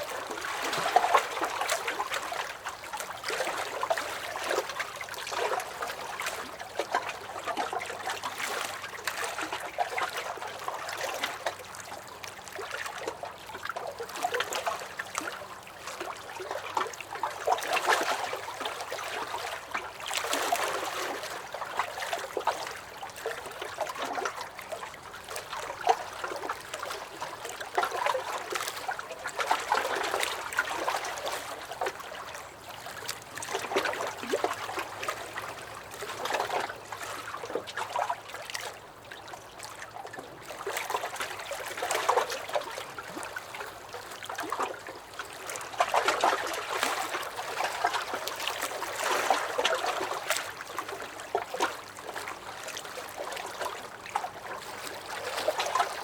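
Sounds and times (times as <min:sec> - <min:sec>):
lake waves lapping against a dock: 0:00.0 - 0:56.0.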